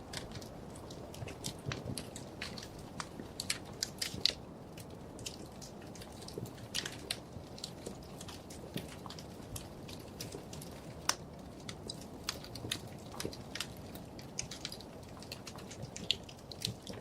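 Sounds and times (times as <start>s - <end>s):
soft steady hiss: 0.0s - 17.0s
wood fire crackling: 0.0s - 17.0s.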